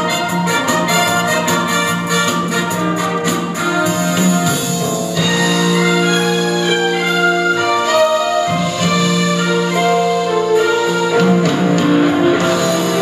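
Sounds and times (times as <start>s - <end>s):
orchestral music with brass: 0.0s - 13.0s.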